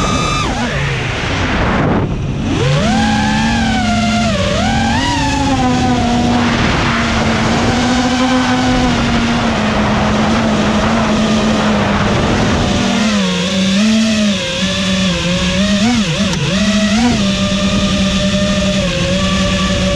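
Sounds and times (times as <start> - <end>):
drone motors whining: 0.0 - 19.9
wind noise: 0.0 - 19.9.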